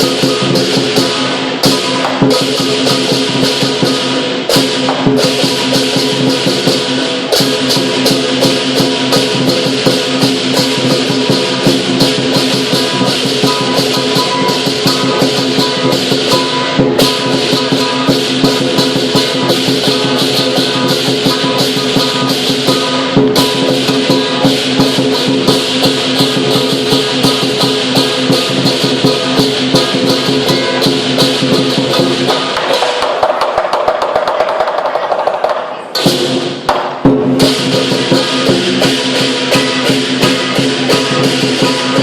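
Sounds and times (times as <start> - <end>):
gong: 0.0 - 33.1, 37.4 - 42.0
cymbals clashing: 0.0 - 42.0
drum beating: 0.0 - 42.0.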